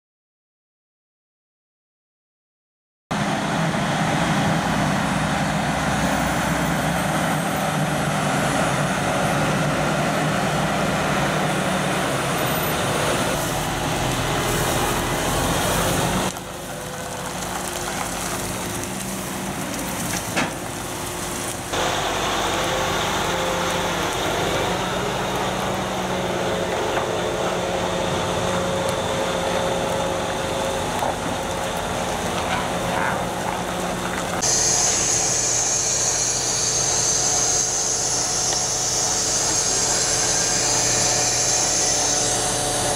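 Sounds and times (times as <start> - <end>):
road and tyre noise: 3.1 - 42.9
tractor engine under load: 3.2 - 42.9.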